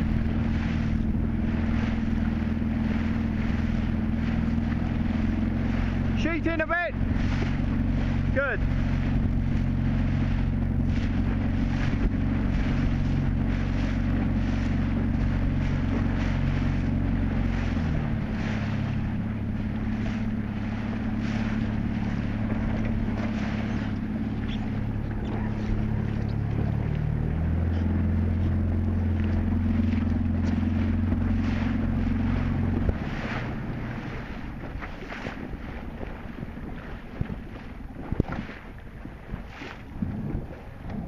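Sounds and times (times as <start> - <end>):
outboard motor running: 0.0 - 41.0
water splashing against hull: 0.0 - 41.0
wind buffeting microphone: 0.0 - 41.0.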